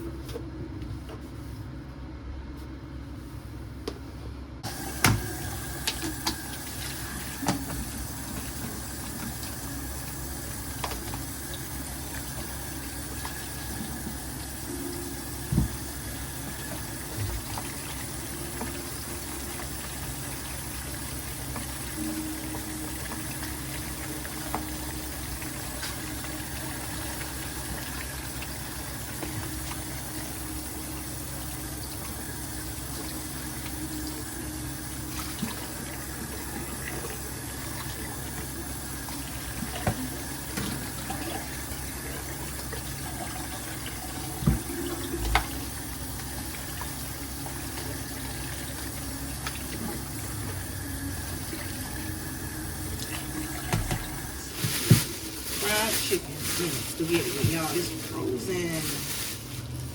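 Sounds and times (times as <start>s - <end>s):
water running from a tap: 4.6s - 59.9s.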